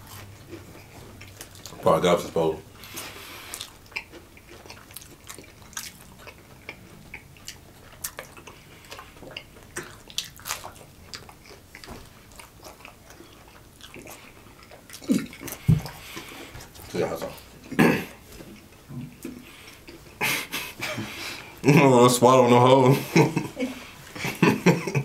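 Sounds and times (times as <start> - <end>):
chewing chicken nuggets: 0.0 - 20.2.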